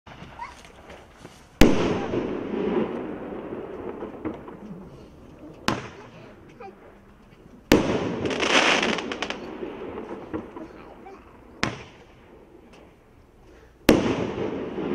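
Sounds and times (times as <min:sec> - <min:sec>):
roman candle bangs echoing: 0:00.1 - 0:14.9.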